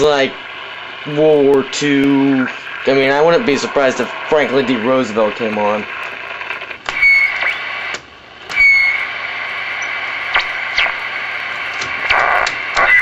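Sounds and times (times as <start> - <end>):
high steady radio whistle: 0.0 - 13.0
radio static hiss: 0.0 - 13.0.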